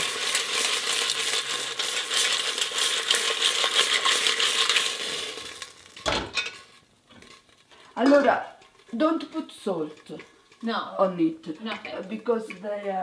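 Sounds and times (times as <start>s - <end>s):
clams sizzling in oil: 0.0s - 13.0s.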